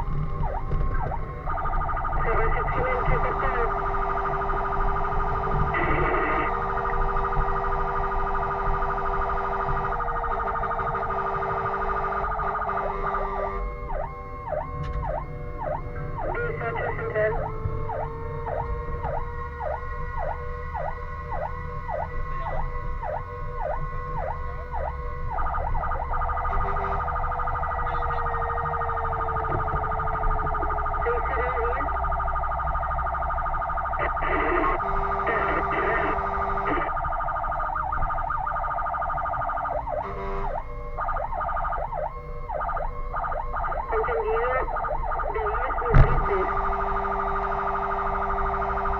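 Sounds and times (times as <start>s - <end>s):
engine and road noise: 0.0s - 48.9s
fast pulsing siren: 0.0s - 48.9s
fire engine siren: 0.0s - 48.9s.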